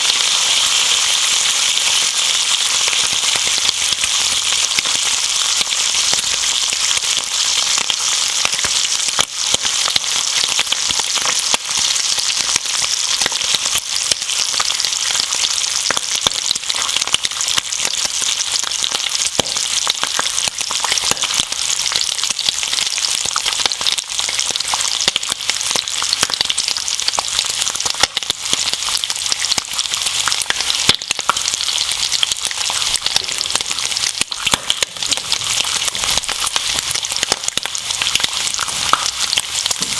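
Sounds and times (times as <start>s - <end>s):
bacon and eggs sizzling: 0.0s - 39.9s.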